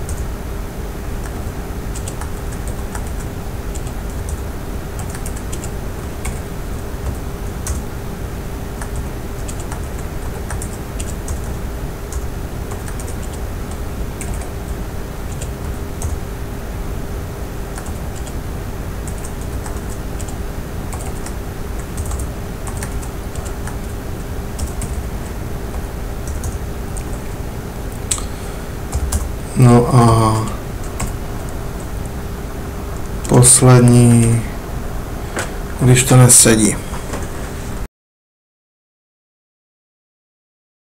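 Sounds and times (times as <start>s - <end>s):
steady hum: 0.0s - 37.9s.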